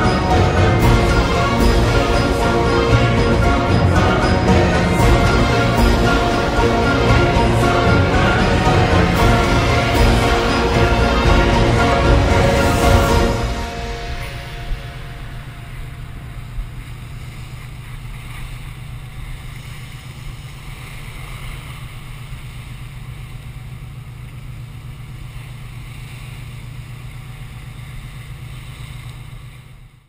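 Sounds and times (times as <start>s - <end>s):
sea rushing: 0.0s - 30.0s
ship engine drone: 0.0s - 30.0s
wind: 0.0s - 30.0s.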